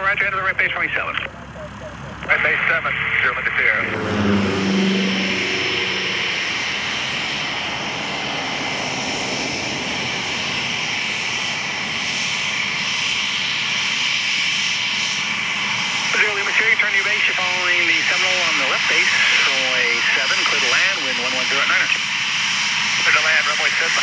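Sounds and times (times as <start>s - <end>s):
aircraft engine running: 0.0s - 24.0s.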